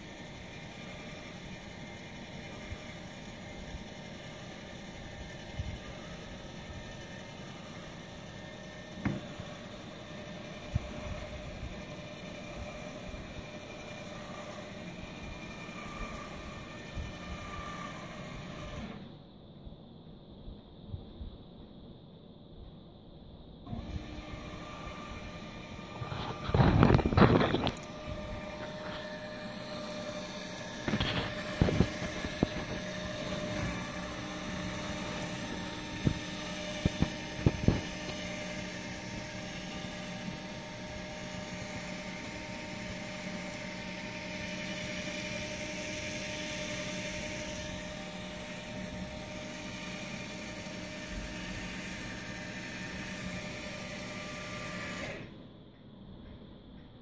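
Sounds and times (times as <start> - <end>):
small motor whining: 0.0 - 19.2, 23.7 - 55.4.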